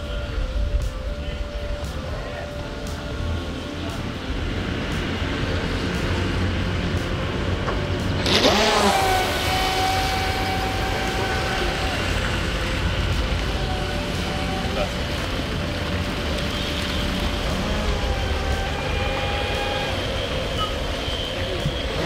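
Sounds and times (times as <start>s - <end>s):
model boat motor whine: 3.3s - 22.0s.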